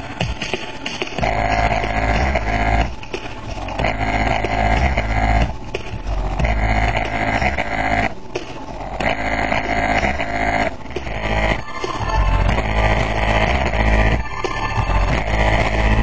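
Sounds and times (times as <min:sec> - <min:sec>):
bass-heavy hip-hop music: 0:00.0 - 0:16.0.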